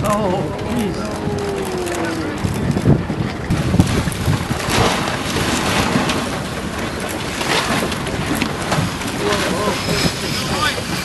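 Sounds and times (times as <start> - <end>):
choppy water and spray: 0.0 - 11.0
wind buffeting the microphone: 0.0 - 11.0.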